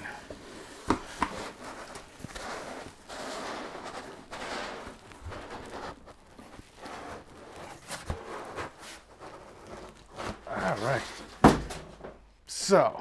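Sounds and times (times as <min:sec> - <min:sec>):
cardboard box rustling and scraping: 0:00.2 - 0:11.7.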